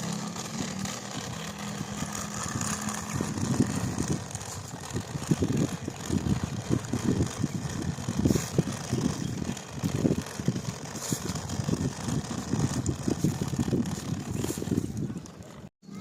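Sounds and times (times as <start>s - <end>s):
truck engine humming: 0.0s - 15.7s.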